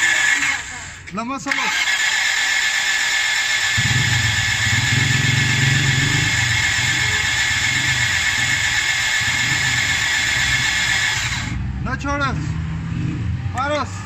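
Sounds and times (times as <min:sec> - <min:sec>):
starter motor whine: 0:00.0 - 0:11.6
diesel engine firing: 0:00.0 - 0:12.3.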